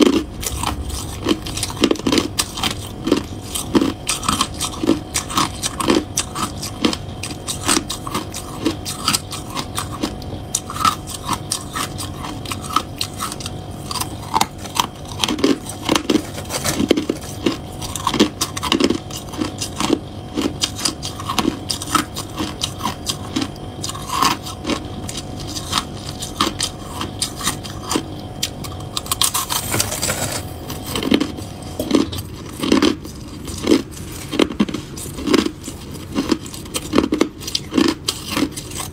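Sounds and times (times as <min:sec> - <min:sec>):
crushed ice being chewed: 0:00.0 - 0:38.9.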